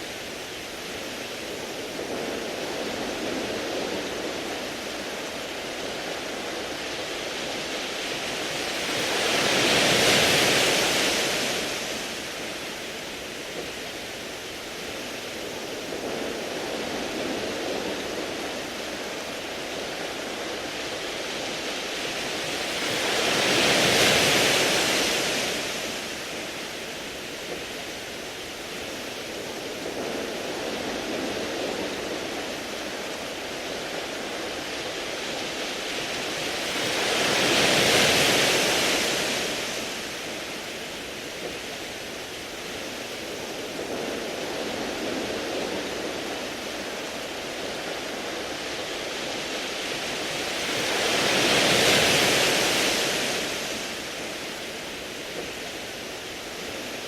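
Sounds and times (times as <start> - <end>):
waves washing on pebble beach: 0.0 - 57.0.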